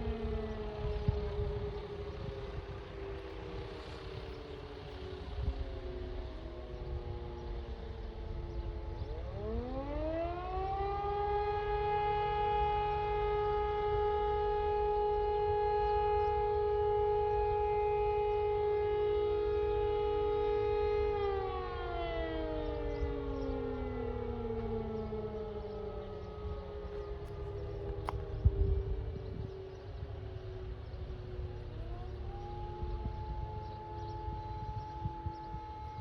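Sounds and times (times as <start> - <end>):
rotary siren howling: 0.0 - 36.0
second siren: 0.0 - 36.0.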